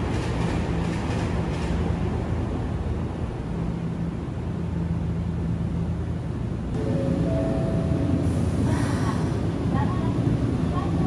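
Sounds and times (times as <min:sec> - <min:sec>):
electric train car hum: 0:00.0 - 0:11.0.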